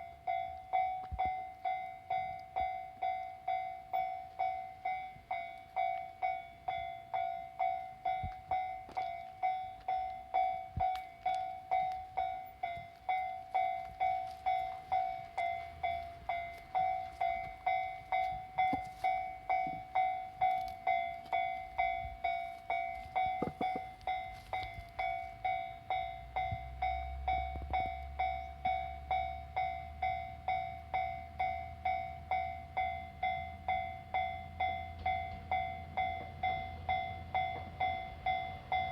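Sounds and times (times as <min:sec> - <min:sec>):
level crossing warning bell ringing: 0:00.0 - 0:38.9
low rumble of approaching train: 0:00.0 - 0:38.9.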